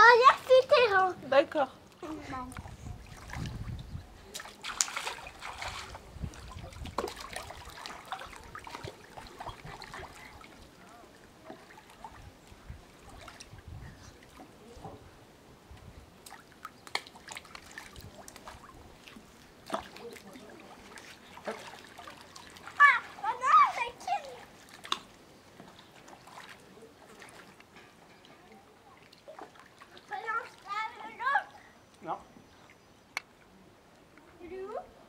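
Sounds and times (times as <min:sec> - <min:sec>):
pool water splashing: 0:00.0 - 0:35.0.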